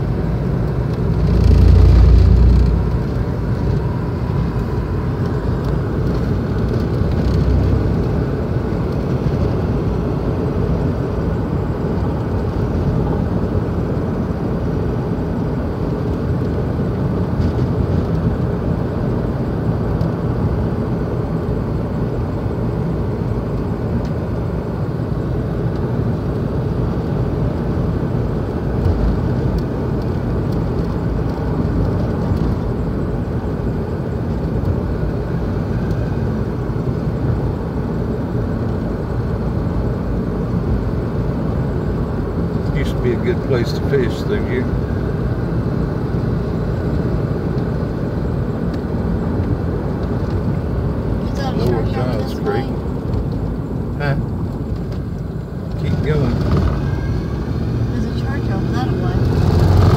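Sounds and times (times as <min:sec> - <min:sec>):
car engine hum: 0:00.0 - 0:59.9.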